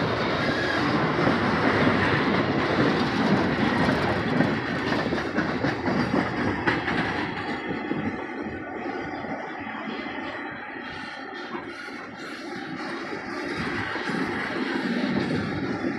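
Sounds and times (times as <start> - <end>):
freight train rumbling past: 0.0 - 15.9.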